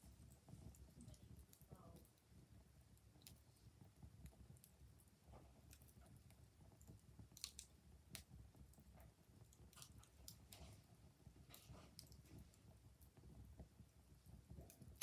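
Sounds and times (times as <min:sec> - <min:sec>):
fire crackling with pops: 0:00.0 - 0:15.0.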